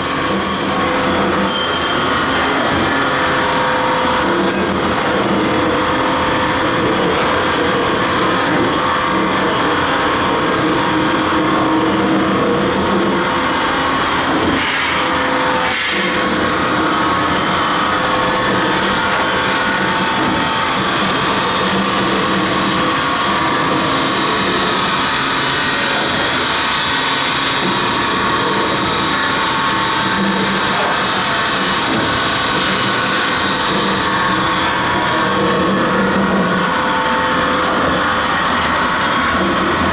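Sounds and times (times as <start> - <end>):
knife grinding machine running: 0.0 - 39.9.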